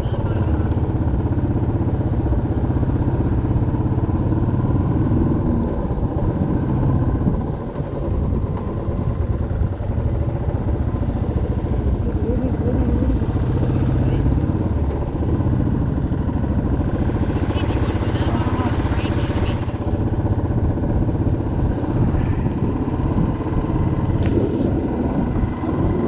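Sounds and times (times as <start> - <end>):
motorcycle engine running: 0.4 - 22.0.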